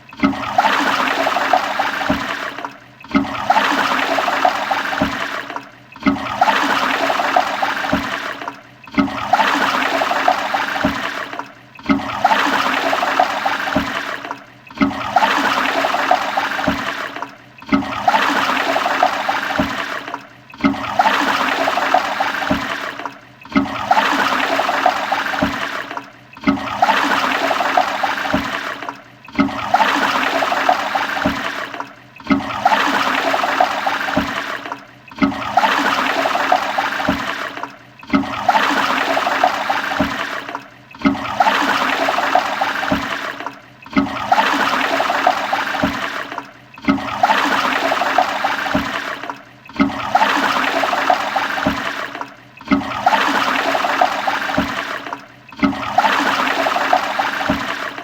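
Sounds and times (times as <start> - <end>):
toilet flushing: 0.0 - 58.0.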